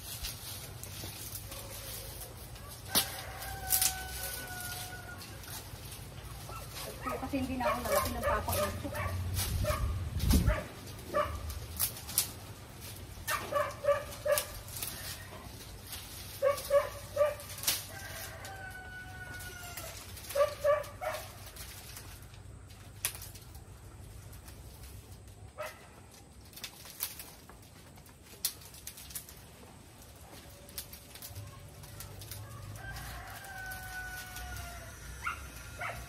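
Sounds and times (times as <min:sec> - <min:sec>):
dry fronds crackling and rustling: 0:00.0 - 0:36.0.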